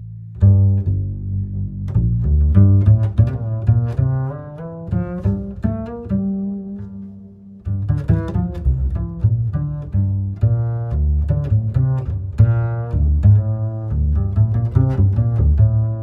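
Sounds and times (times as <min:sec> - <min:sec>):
plucked and bowed strings music: 0:00.0 - 0:16.0.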